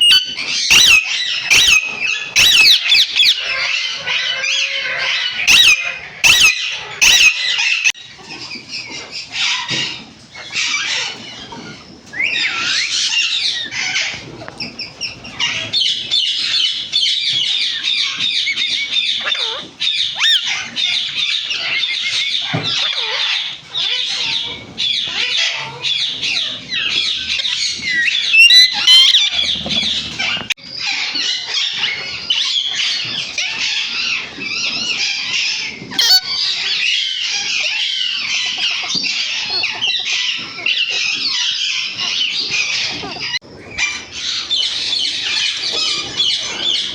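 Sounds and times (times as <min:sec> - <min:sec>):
parrots screeching and chattering: 0:00.0 - 0:46.9.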